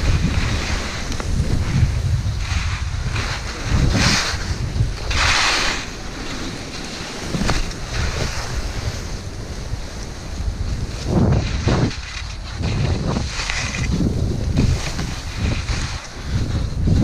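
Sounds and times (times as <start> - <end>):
ski edges scraping snow: 0.0 - 17.0
wind buffeting microphone: 0.0 - 17.0.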